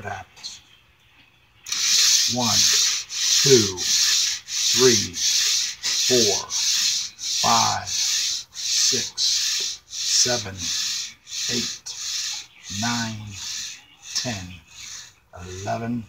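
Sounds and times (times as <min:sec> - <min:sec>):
model train wheels hissing on rails: 0:01.7 - 0:15.9.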